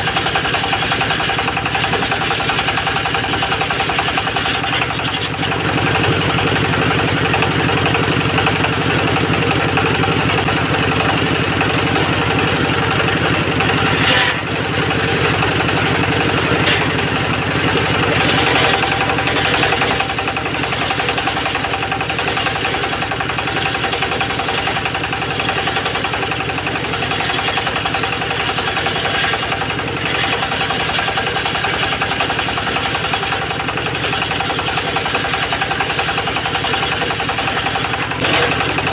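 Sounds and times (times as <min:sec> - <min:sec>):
circular sawmill sawing wood: 0:00.0 - 0:38.9
engine rumble: 0:00.0 - 0:38.9.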